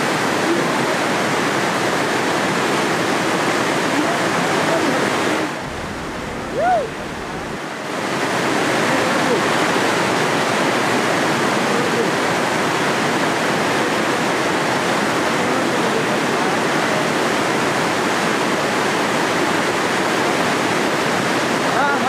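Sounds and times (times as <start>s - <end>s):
whitewater rapid rushing: 0.0s - 22.0s.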